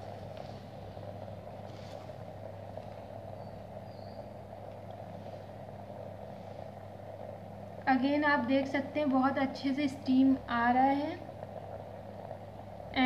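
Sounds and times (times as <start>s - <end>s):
facial steamer hum: 0.0s - 13.0s
low steam hiss: 0.0s - 13.0s.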